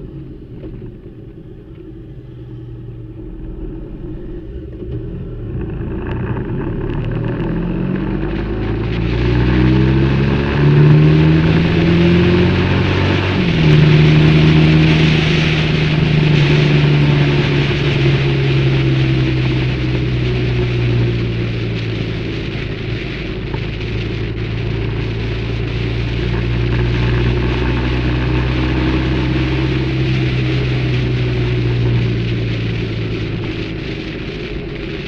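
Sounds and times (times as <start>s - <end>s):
motorcycle engine accelerating: 0.0s - 35.0s
wind rush: 1.9s - 35.0s.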